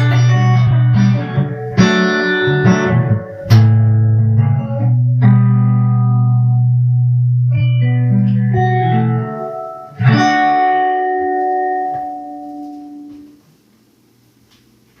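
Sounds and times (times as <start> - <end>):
guitar playing: 0.0 - 13.6.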